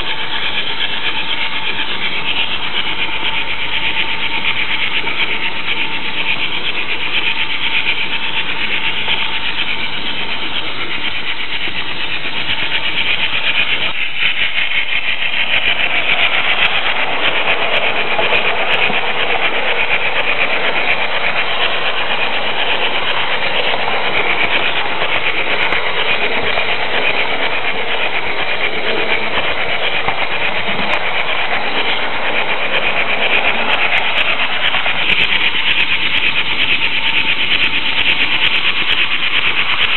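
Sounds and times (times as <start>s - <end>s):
model train rolling on track: 0.0s - 39.9s.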